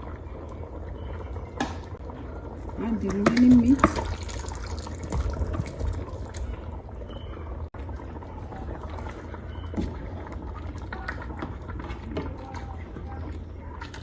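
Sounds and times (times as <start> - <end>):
soup simmering in a pot: 0.0 - 14.0.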